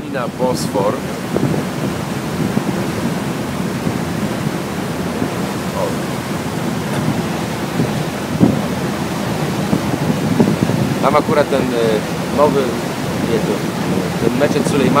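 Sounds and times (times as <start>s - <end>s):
water rushing in boat wake: 0.0s - 15.0s
wind on microphone: 0.0s - 15.0s.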